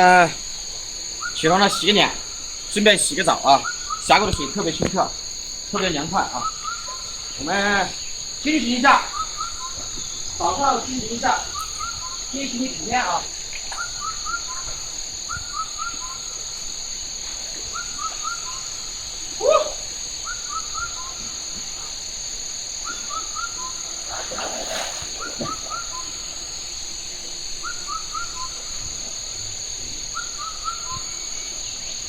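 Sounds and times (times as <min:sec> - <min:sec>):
bird calling: 0:00.0 - 0:32.0
high-pitched insect drone: 0:00.0 - 0:32.0.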